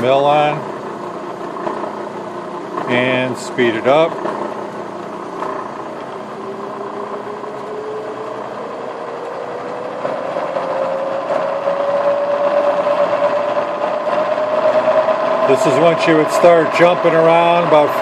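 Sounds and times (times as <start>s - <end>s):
milling machine whine: 0.0s - 18.0s.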